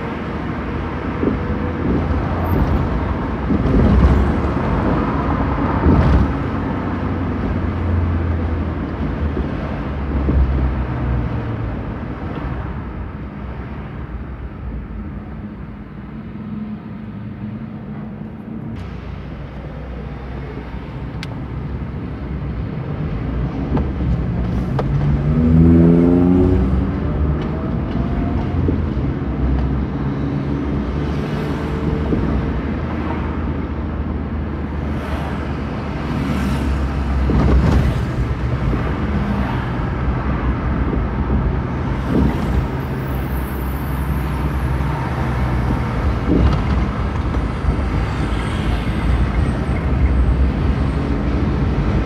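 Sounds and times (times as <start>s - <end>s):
road noise: 0.0s - 52.0s.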